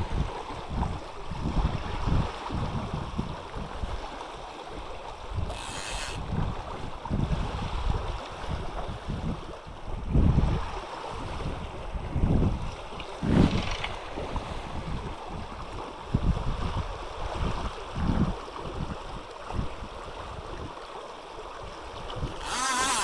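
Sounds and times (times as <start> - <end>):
wind buffeting microphone: 0.0 - 20.8.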